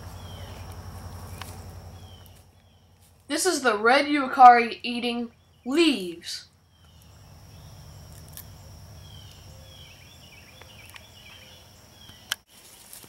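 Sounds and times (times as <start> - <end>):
bird chirping: 0.0 - 12.4
insect drone: 0.0 - 13.0.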